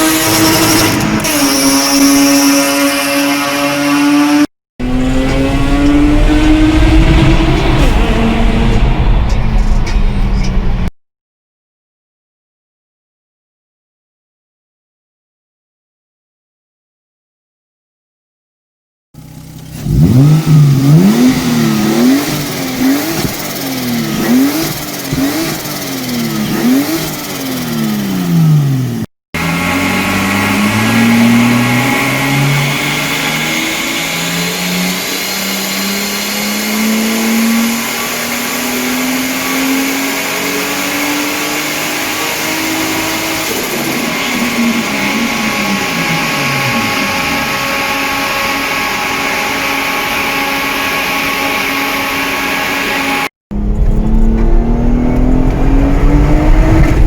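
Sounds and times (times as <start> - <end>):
car engine revving: 0.0 - 10.9, 19.2 - 57.0.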